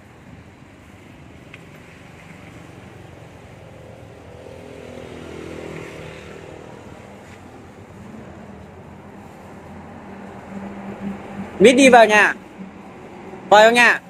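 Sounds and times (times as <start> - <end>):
vehicle engine hum passing: 0.0 - 14.0.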